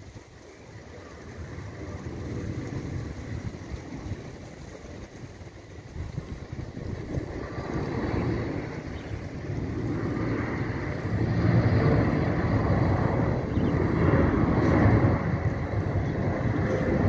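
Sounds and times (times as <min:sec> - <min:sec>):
low jet engine rumble: 0:00.0 - 0:17.0.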